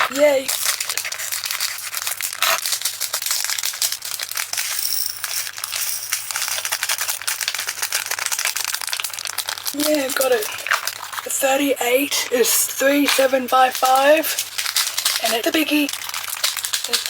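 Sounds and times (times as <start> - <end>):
plastic bag crinkling: 0.0 - 17.0
tiny plastic beads rattling: 0.0 - 17.0.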